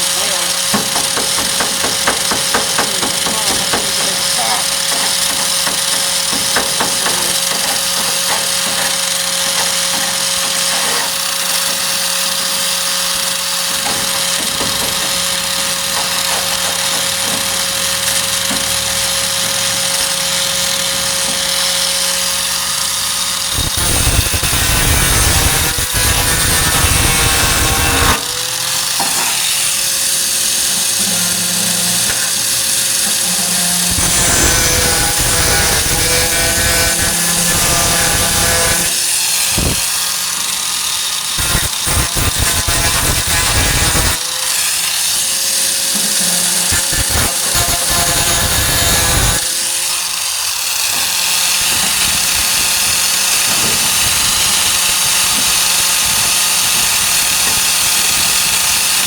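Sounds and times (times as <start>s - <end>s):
angle grinder on sheet metal: 0.0s - 59.0s.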